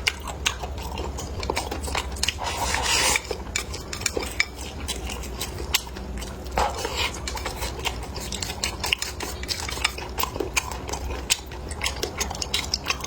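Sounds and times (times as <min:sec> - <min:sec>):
utensils clicking against dishes: 0:00.0 - 0:13.0.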